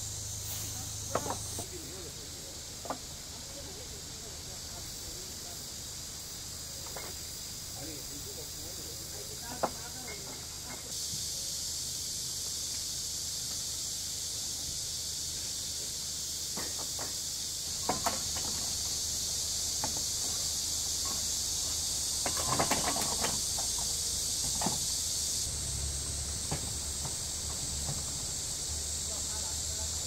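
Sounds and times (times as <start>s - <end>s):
high-pitched ambient hiss: 0.0s - 30.0s.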